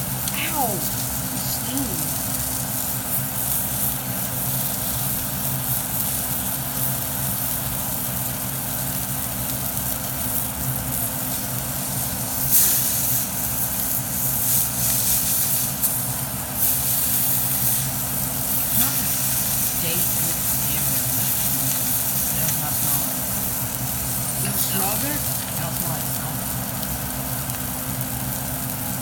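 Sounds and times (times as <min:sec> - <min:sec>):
fish sizzling in a pan: 0:00.0 - 0:29.0.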